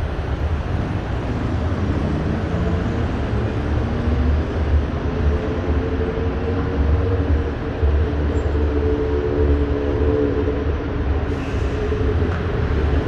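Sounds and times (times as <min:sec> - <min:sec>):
road traffic rumble: 0:00.0 - 0:13.0
vehicle engine drone: 0:00.0 - 0:13.0.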